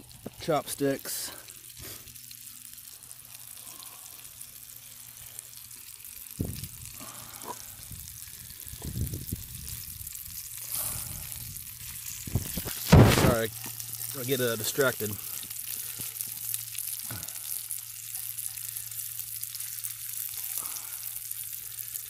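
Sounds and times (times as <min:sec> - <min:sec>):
oil sizzling around fish: 0:00.0 - 0:22.0.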